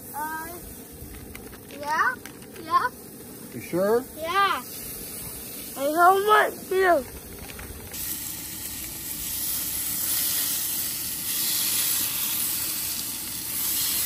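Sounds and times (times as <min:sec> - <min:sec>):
hot dogs sizzling: 0:00.0 - 0:14.0.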